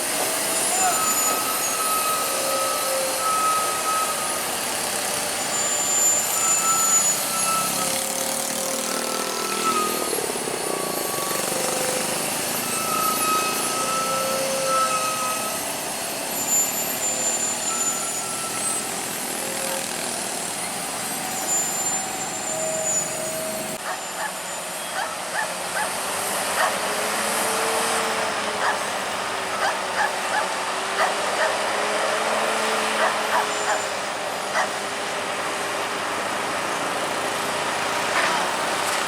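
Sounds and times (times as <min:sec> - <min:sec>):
short high squeals: 0:00.0 - 0:26.0, 0:26.6 - 0:35.1
truck engine and road noise: 0:00.0 - 0:39.0.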